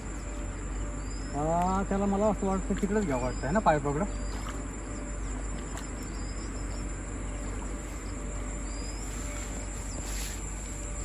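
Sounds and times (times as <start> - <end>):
bird chirps: 0.0 - 10.5
insects droning: 0.0 - 11.0.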